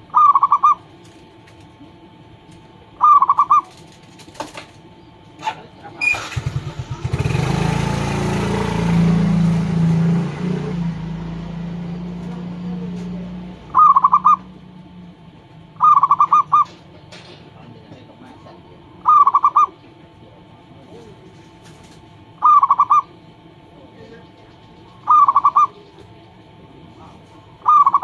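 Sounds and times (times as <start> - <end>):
dove cooing: 0.0 - 5.8, 8.7 - 17.4, 18.5 - 28.0.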